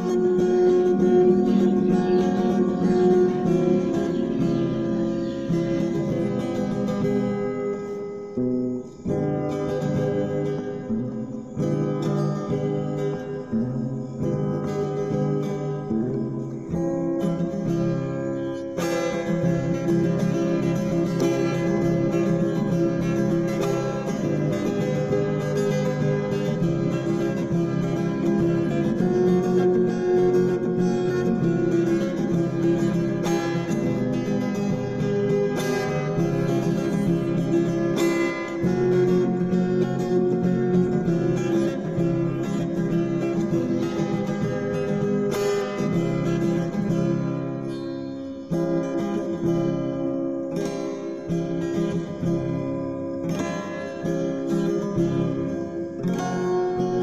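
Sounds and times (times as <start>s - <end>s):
guitar strumming chords: 0.0s - 57.0s.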